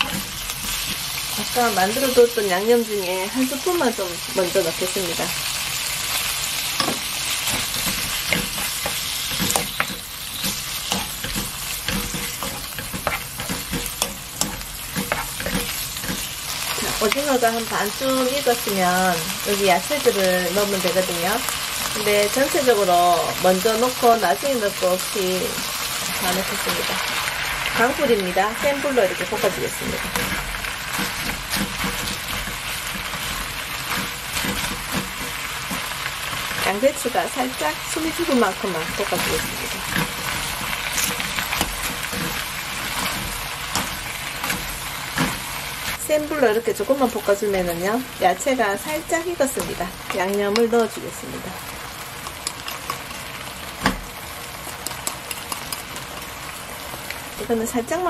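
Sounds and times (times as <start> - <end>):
wooden spatula scraping wok: 0.0 - 2.3, 5.1 - 18.7, 24.9 - 56.4
food sizzling in hot oil: 0.0 - 58.0.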